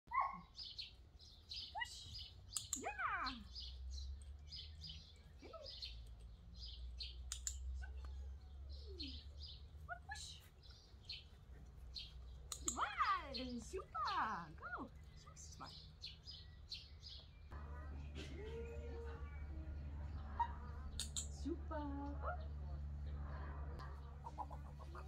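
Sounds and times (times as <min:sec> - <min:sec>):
songbirds chirping: 0:00.1 - 0:25.0.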